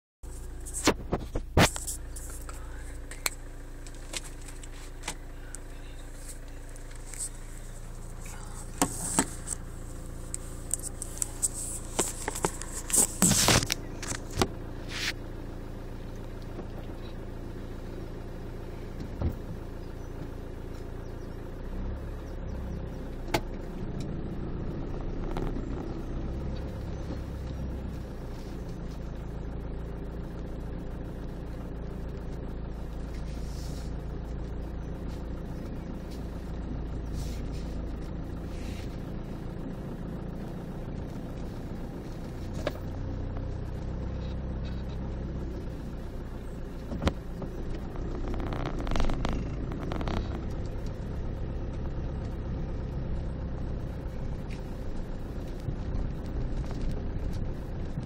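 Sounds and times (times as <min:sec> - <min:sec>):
car engine humming: 0:00.2 - 0:58.0.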